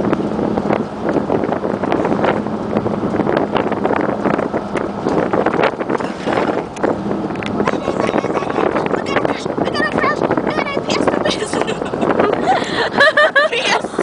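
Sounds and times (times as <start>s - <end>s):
road noise: 0.0s - 14.0s
truck engine running: 0.0s - 14.0s
wind buffeting microphone: 0.0s - 14.0s.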